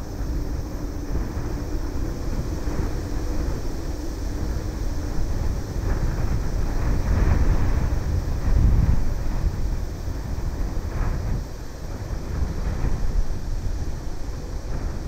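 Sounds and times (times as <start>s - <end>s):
distant jet engines hum: 0.0s - 15.0s
wind buffeting microphone: 0.0s - 15.0s.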